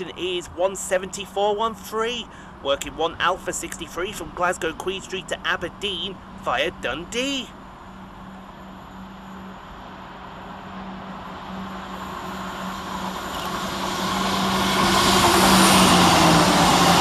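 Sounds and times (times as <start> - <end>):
diesel train engine hum: 0.0 - 17.0
wheels rushing on rail: 1.8 - 17.0.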